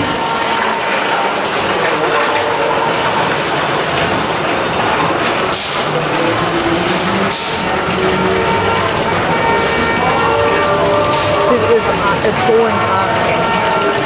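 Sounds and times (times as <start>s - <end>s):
coaster chain lift rattling: 0.0s - 14.0s.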